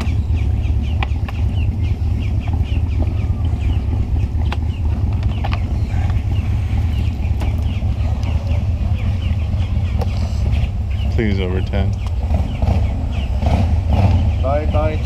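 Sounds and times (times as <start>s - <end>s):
bird chirping: 0.0s - 15.0s
steady low rumble: 0.0s - 15.0s.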